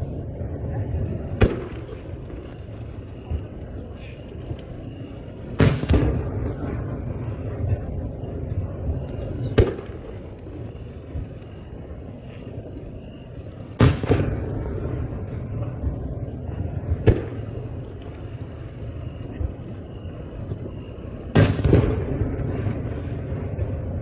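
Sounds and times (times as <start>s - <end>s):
rolling echo of boom: 0.0s - 12.8s, 13.6s - 24.0s.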